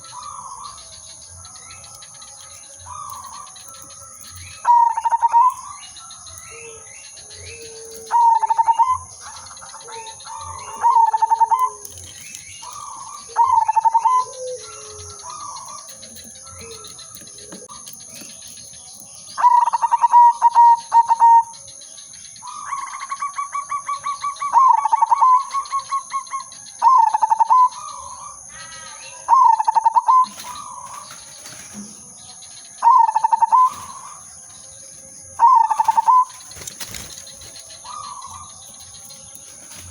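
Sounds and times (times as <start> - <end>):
dove cooing: 0.0 - 18.7, 19.3 - 21.6, 22.4 - 31.8, 32.8 - 34.3, 35.4 - 39.9
small birds chirping: 0.0 - 39.9.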